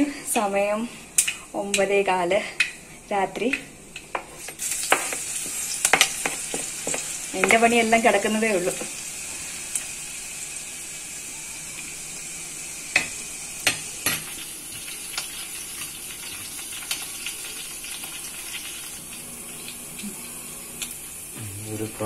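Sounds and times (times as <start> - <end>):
oil sizzling in a pot: 2.6 - 22.0.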